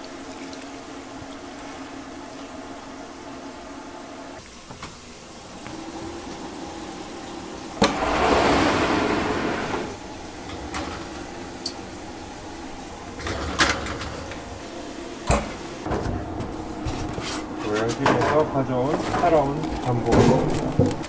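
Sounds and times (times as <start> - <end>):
steady kitchen hum: 0.0 - 21.0
rushing steam from oven: 2.9 - 20.0.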